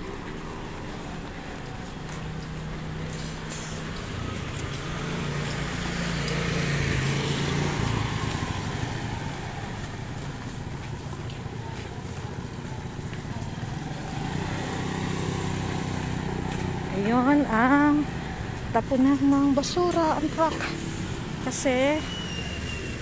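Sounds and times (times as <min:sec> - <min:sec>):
motor scooter passing: 0:00.0 - 0:23.0
street traffic noise: 0:00.0 - 0:23.0.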